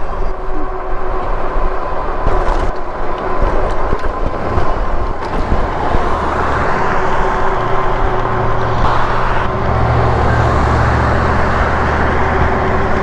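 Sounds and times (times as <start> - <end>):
road noise: 0.0 - 13.0
steady thin whine: 0.0 - 13.0
wind buffeting microphone: 0.0 - 13.0.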